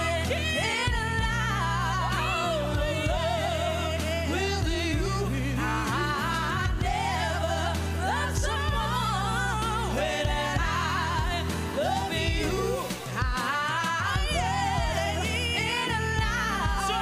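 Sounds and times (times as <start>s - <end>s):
band accompaniment with bass: 0.0s - 17.0s
women singing pop ballad: 0.0s - 17.0s.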